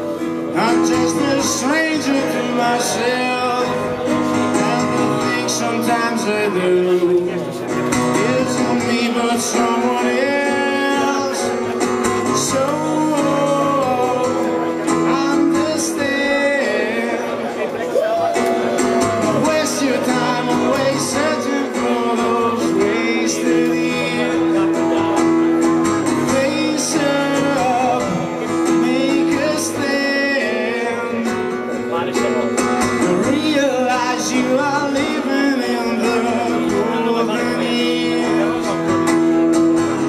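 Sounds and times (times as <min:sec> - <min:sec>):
acoustic guitar playing: 0:00.0 - 0:40.0.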